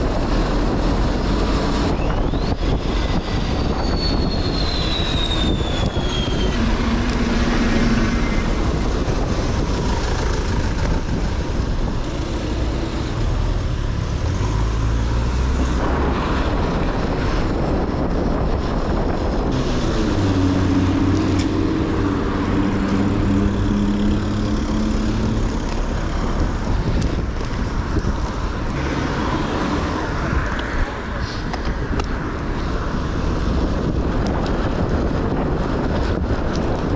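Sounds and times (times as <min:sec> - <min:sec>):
road traffic: 0:00.0 - 0:36.9
vehicle engine hum: 0:00.0 - 0:36.9
wind on microphone: 0:00.0 - 0:36.9.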